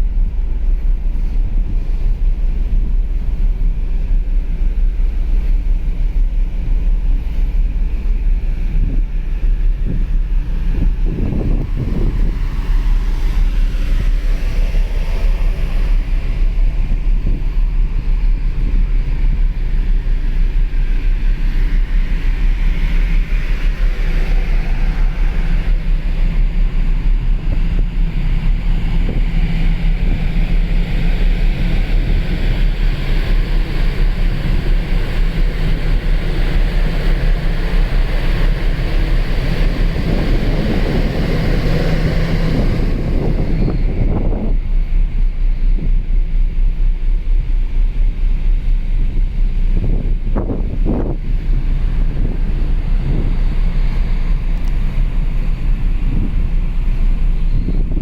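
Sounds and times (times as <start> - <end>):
ship engines humming: 0.0 - 58.0
wind buffeting microphone: 0.0 - 58.0.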